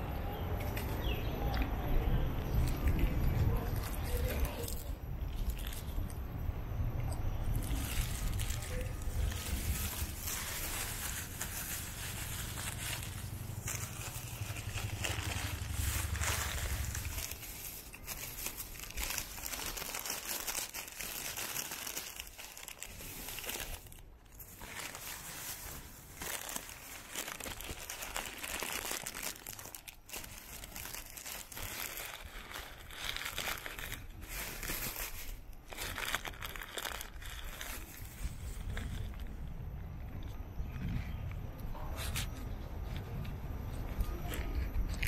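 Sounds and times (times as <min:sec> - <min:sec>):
crackling rustling noise: 0:02.3 - 0:45.0.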